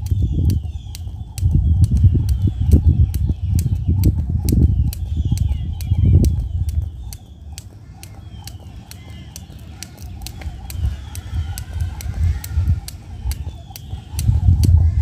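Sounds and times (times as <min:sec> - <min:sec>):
birds chirping: 0:00.0 - 0:15.0
skipping rope slapping concrete: 0:00.0 - 0:15.0.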